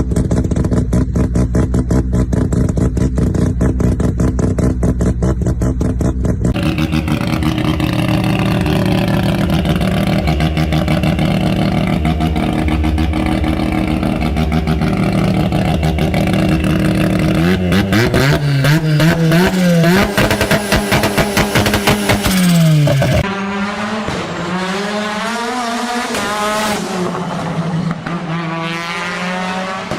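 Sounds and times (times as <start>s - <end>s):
rotary engine idling and revving: 0.0s - 29.9s.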